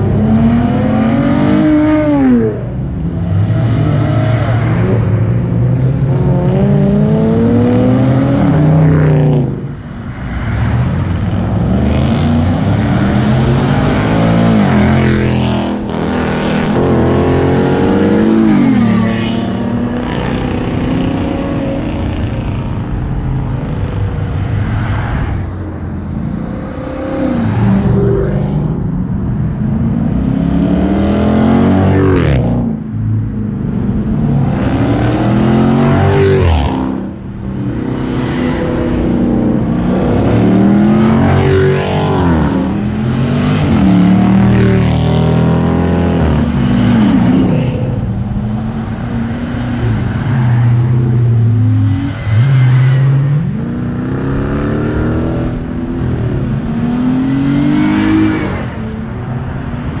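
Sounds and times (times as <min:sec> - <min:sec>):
cars accelerating past: 0:00.0 - 0:29.0, 0:29.6 - 1:00.0.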